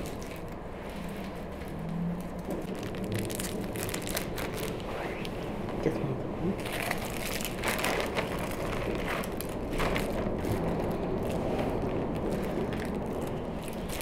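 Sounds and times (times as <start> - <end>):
plastic bag rustling: 0.0 - 5.2, 6.6 - 14.0.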